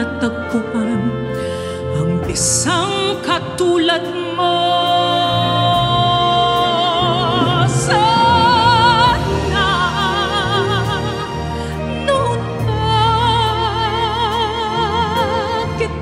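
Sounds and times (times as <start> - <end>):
symphony orchestra: 0.0 - 16.0
woman singing with vibrato: 0.0 - 16.0.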